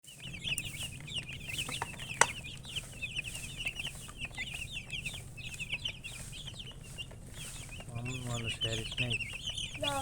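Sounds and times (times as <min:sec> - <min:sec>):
chickens chirping: 0:00.0 - 0:10.0.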